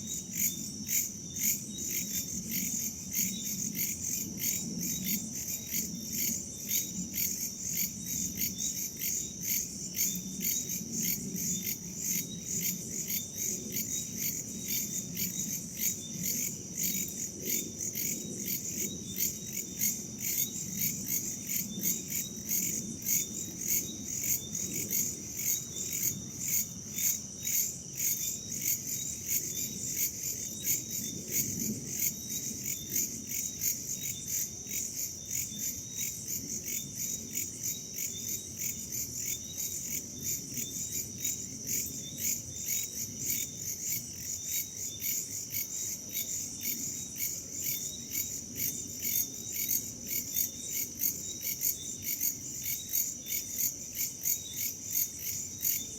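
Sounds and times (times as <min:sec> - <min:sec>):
insects chirping: 0:00.0 - 0:55.9.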